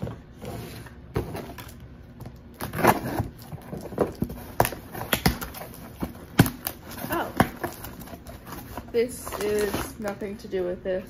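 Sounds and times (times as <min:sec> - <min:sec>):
cardboard and tape crackling: 0:00.0 - 0:10.7.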